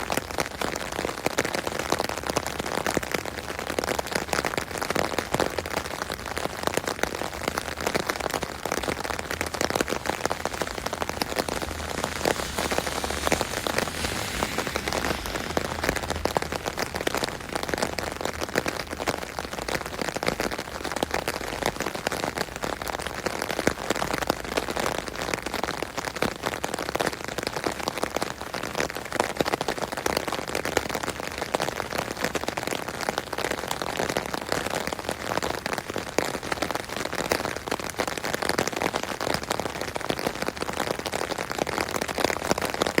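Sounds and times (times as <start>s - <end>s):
rain on an umbrella: 0.0s - 43.0s.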